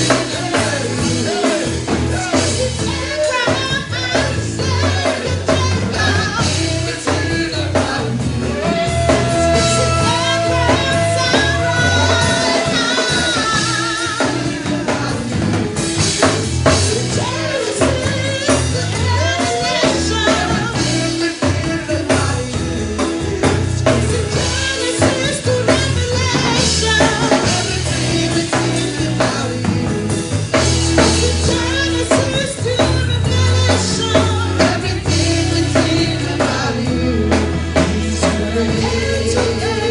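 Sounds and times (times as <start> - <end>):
band playing: 0.0 - 39.9
drum kit: 0.0 - 39.9
people singing: 0.0 - 39.9.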